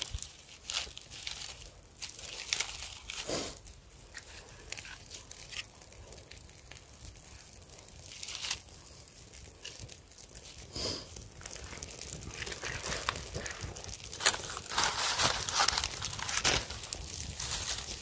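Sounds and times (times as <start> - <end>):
campfire crackling: 0.0 - 18.0
twigs rustling and snapping: 0.0 - 18.0.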